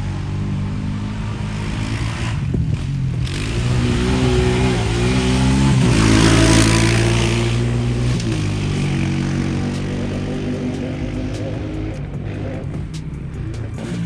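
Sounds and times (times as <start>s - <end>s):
off-road engines revving: 0.8s - 14.0s.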